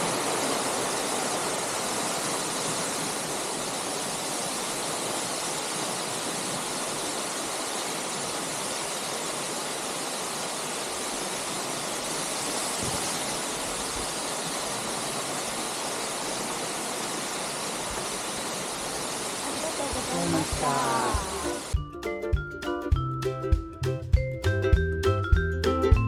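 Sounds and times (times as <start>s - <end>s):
waterfall rushing: 0.0s - 21.8s.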